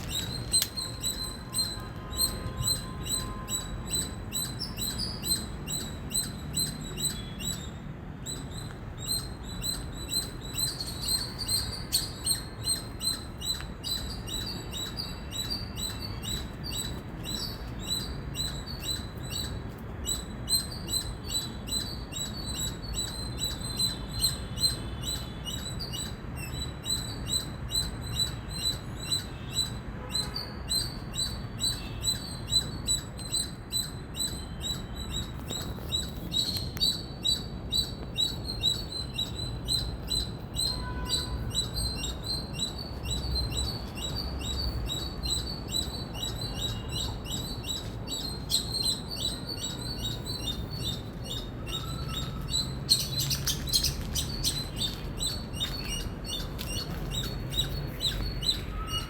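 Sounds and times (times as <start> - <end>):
squirrel chirping: 0.0 - 29.8, 30.7 - 59.0.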